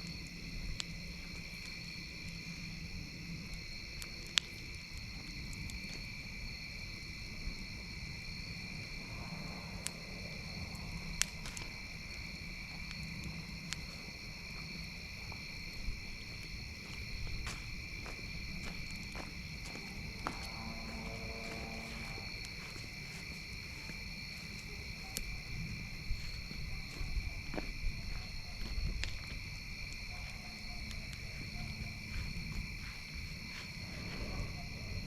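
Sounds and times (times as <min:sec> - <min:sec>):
campfire crackling: 0:00.0 - 0:35.0
high-pitched insect chorus: 0:00.0 - 0:35.0.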